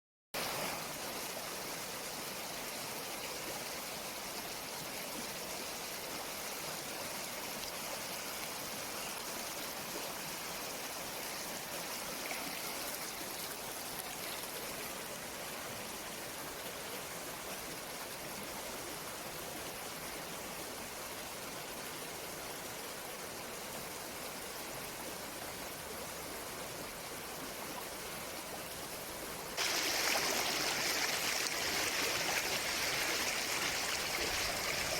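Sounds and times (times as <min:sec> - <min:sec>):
stream water flowing: 0:00.4 - 0:34.9.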